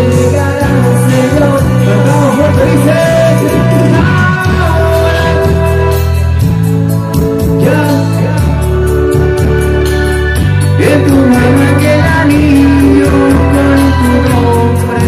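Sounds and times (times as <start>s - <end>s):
steady bass: 0.0s - 15.0s.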